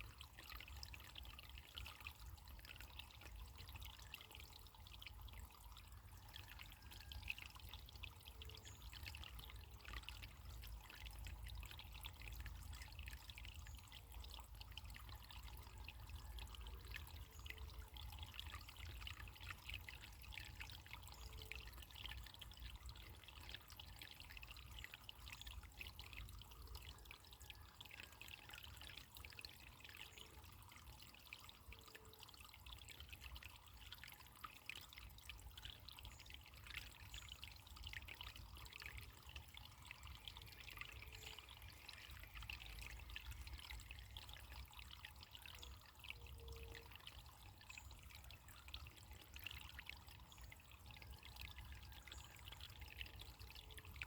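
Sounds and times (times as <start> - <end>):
small stream trickling: 0.0 - 54.0.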